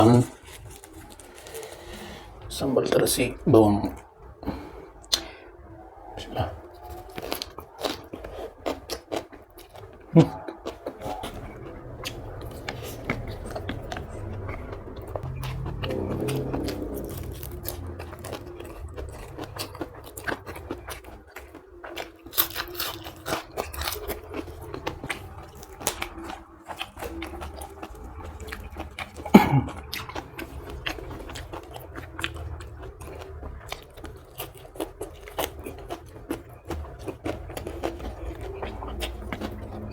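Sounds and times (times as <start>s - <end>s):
person chewing crunchy food: 0.0s - 5.4s, 6.2s - 39.9s.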